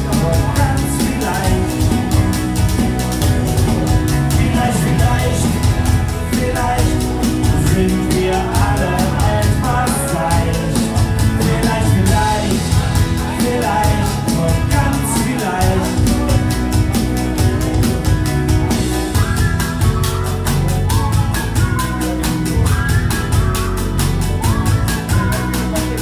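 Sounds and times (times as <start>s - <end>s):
drum kit beat: 0.0s - 26.0s
live folk-rock band playing: 0.0s - 26.0s.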